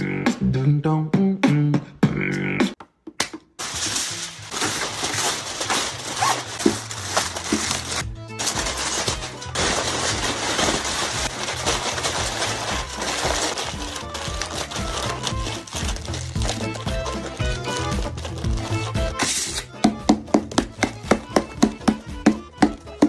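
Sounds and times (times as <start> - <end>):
background music with low bass: 3.6 - 23.0.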